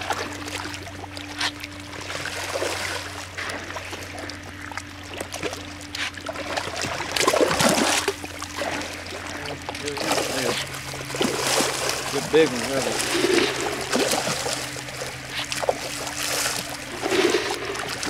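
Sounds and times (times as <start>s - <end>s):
fish splashing at water surface: 0.0s - 18.0s
steady low hum: 0.0s - 18.0s.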